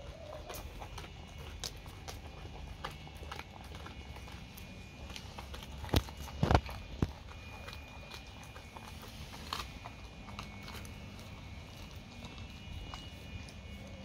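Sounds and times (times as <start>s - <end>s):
dog crunching fish bones: 0.0s - 14.0s.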